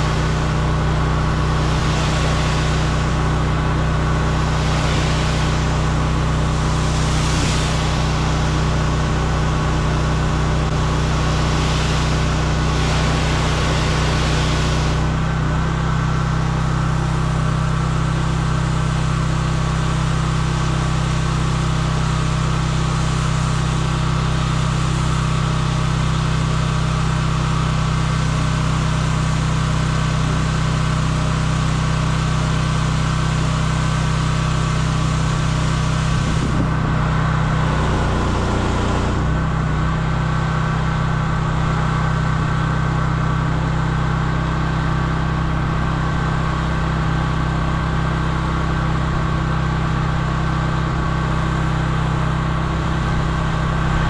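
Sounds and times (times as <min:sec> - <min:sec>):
water spray hissing on paving: 0:00.0 - 0:26.0, 0:31.4 - 0:54.0
pressure washer engine: 0:00.0 - 0:54.0.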